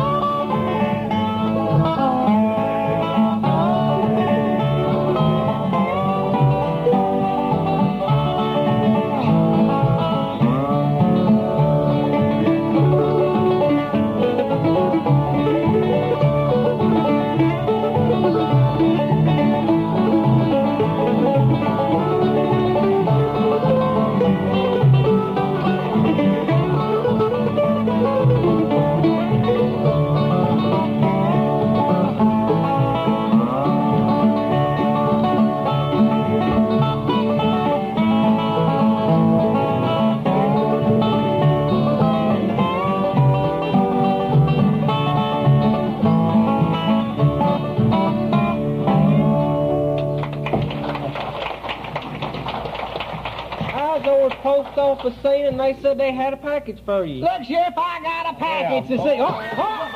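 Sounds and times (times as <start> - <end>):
dobro sliding notes: 0.0 - 50.8
banjo picking: 0.0 - 56.4.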